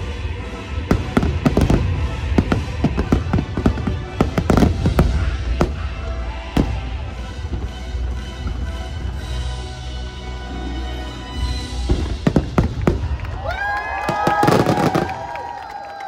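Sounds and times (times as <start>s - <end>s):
fireworks bangs and crackles: 0.0s - 10.0s, 11.4s - 15.6s
music: 0.0s - 16.0s.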